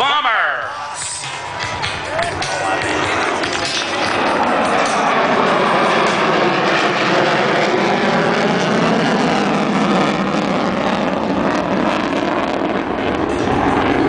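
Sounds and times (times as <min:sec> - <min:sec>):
jet engines roaring past: 0:00.0 - 0:14.0.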